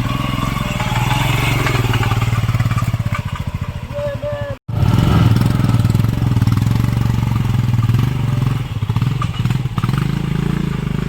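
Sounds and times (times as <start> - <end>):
motorcycle engine under load: 0.0 - 11.0.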